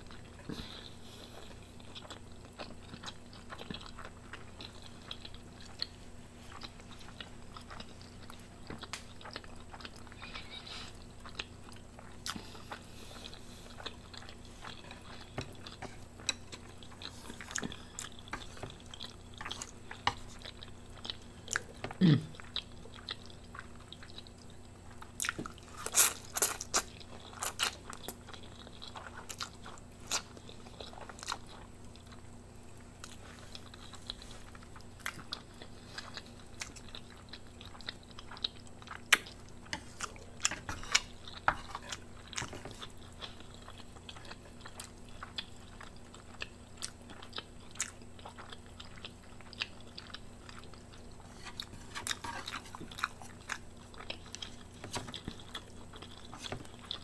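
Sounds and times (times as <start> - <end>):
person chewing noodles: 0.0 - 57.0.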